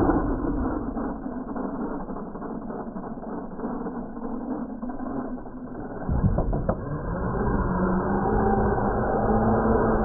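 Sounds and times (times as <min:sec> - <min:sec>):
toy truck motor whirring: 0:00.0 - 0:10.0.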